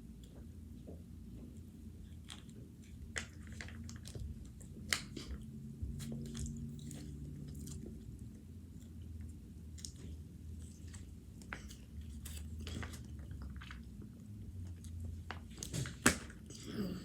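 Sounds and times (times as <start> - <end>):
steady low hum: 0.0 - 17.0
person chewing crunchy food: 1.6 - 15.3.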